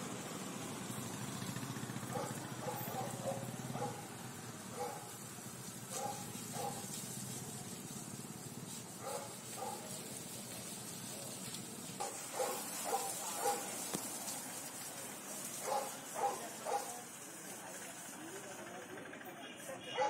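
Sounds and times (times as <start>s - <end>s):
hose water spraying: 0.0s - 19.8s.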